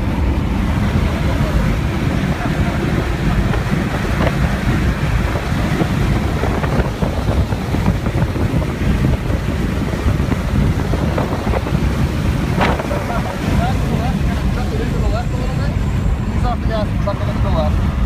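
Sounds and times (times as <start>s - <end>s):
car engine running hard: 0.0s - 18.0s
wind and road noise: 0.0s - 18.0s.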